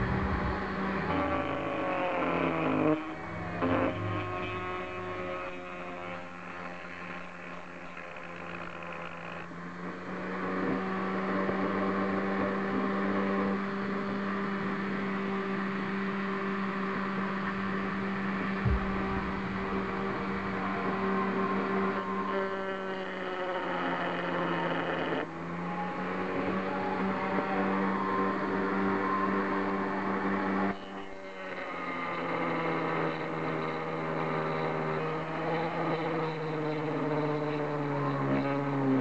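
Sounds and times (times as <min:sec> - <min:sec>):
rotary tool cutting whine: 0:00.0 - 0:12.4, 0:13.4 - 0:39.0.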